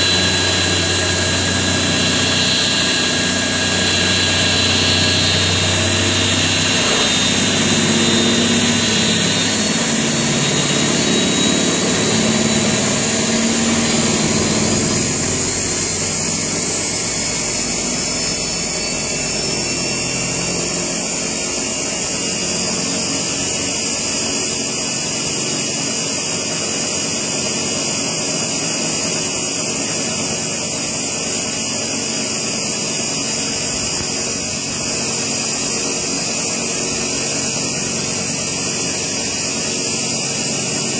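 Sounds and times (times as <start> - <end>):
bead mill motor hum and hiss: 0.0 - 40.9.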